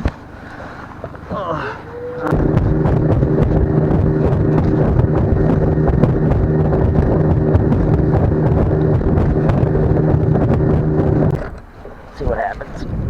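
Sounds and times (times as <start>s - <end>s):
outboard motor running: 0.2s - 12.0s
wind buffeting microphone: 2.3s - 13.0s.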